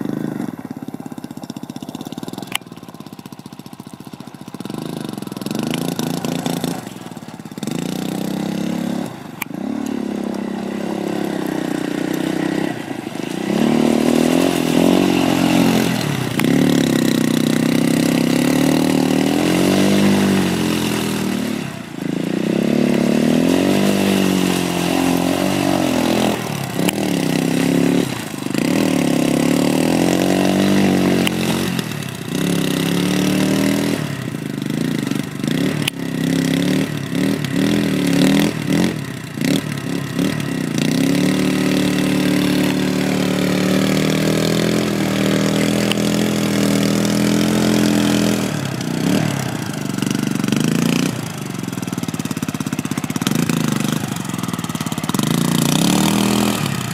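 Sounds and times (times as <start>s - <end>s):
quad engines revving: 0.0s - 56.9s.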